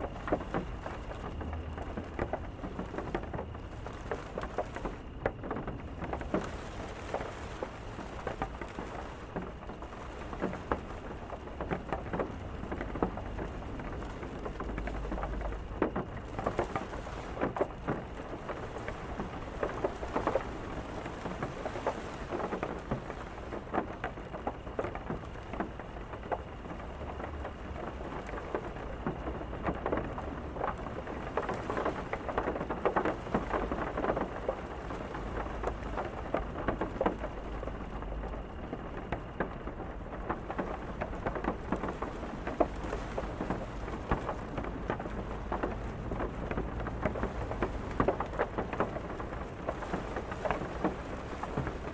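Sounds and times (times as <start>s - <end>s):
rain pattering on a hard surface: 0.0s - 51.9s.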